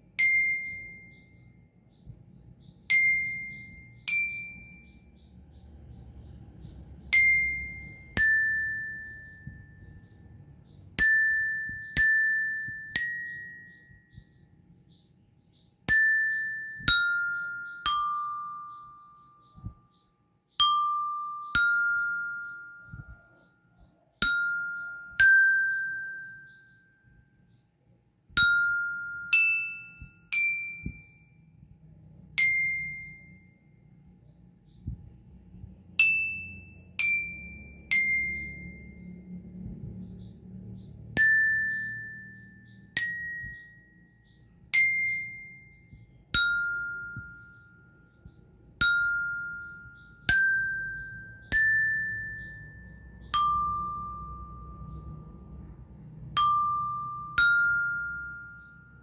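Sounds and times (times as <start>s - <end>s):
bell lyre melody: 0.0s - 23.5s, 24.2s - 27.6s, 28.3s - 34.0s, 35.9s - 59.0s.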